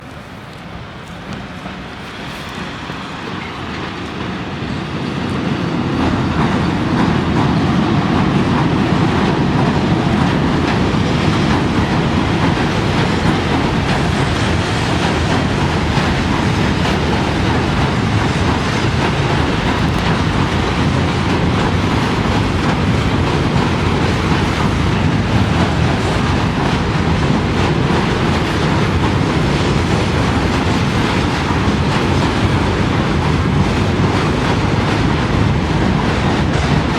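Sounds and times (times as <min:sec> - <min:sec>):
train wheels clattering on rails: 0:00.0 - 0:36.9.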